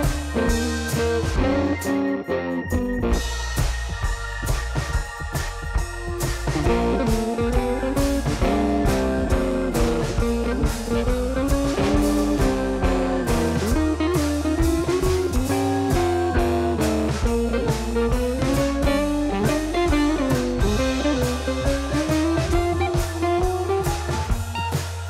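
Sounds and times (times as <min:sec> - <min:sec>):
bass line: 0:00.0 - 0:25.0
electric guitar melody: 0:00.0 - 0:25.0
steady drum beat: 0:00.0 - 0:25.0.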